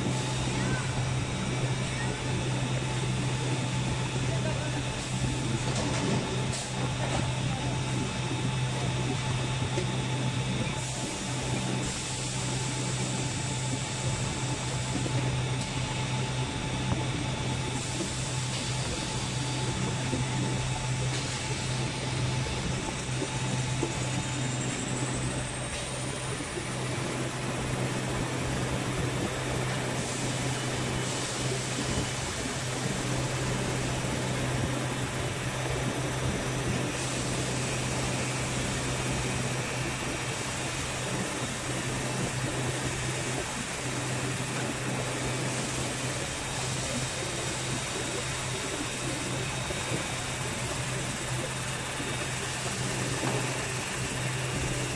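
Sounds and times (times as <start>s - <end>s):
production line machinery humming: 0.0s - 54.9s.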